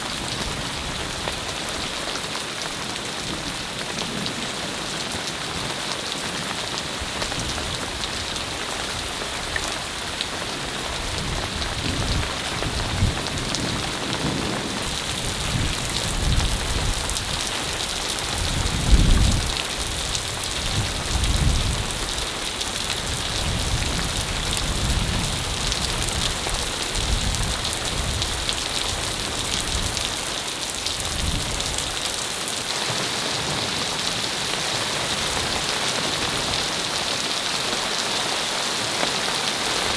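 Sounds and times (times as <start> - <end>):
hail and rain pelting: 0.0 - 39.9.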